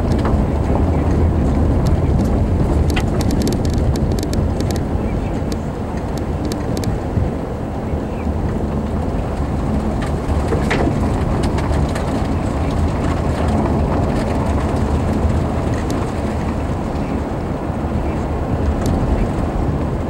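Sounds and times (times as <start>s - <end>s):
car tyres and engine rumble: 0.0s - 20.0s.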